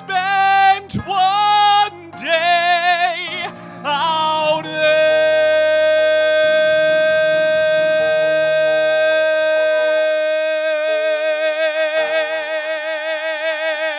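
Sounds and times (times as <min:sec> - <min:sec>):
man singing a long high note: 0:00.0 - 0:13.9.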